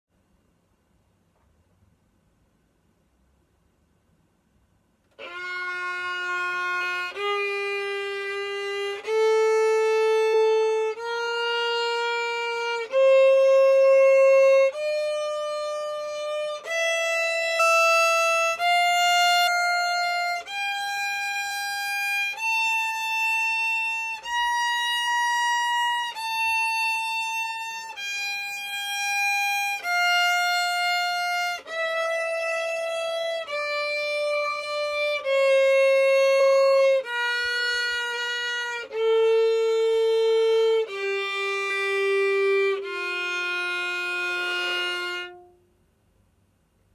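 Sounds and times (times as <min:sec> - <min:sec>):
violin playing a slow scale: 0:05.1 - 0:45.8.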